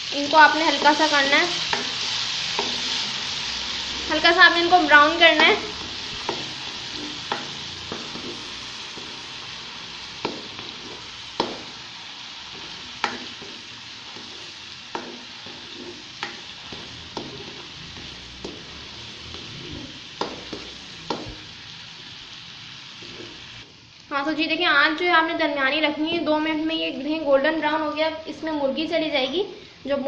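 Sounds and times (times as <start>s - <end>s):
garlic sizzling in hot oil: 0.0s - 30.0s.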